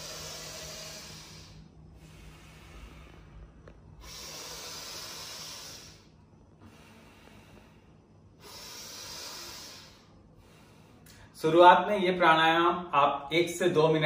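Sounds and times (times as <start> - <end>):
man breathing forcefully through nose: 0.0 - 11.4.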